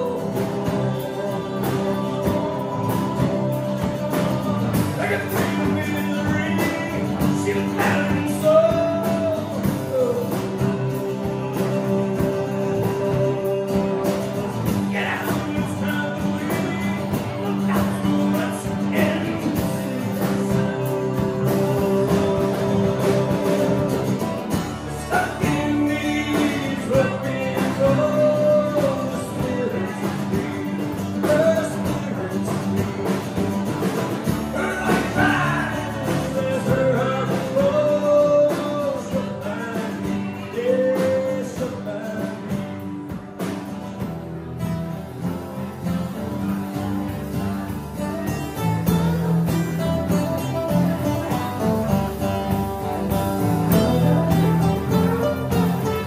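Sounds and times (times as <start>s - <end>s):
man singing: 0.0s - 43.2s, 46.3s - 56.0s
live rock band playing: 0.0s - 56.0s.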